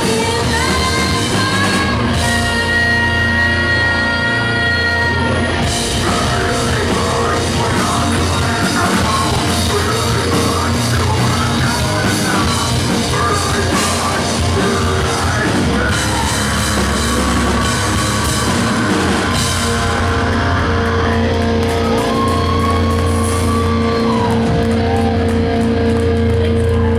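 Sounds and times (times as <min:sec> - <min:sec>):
sung and shouted vocals: 0:00.0 - 0:25.2
loud live rock band: 0:00.0 - 0:26.9.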